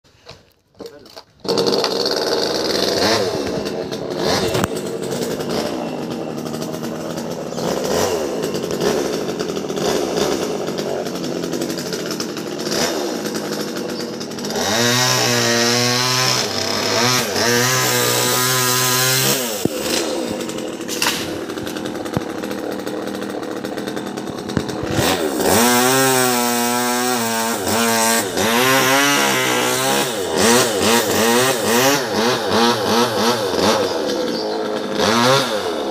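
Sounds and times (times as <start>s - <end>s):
chainsaw running: 0.8s - 35.9s.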